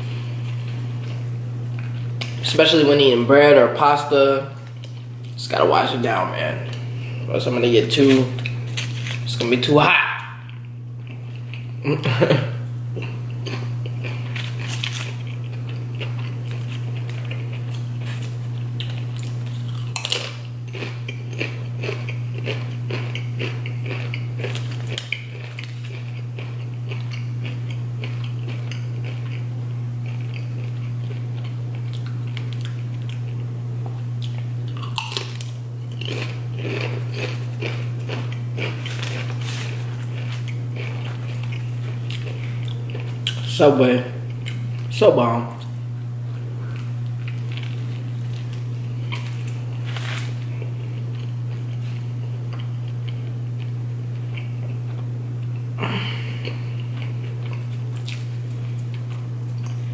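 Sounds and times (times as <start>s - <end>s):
chewing and crunching chips: 7.8s - 45.0s, 46.6s - 59.9s
low hum: 8.3s - 59.9s.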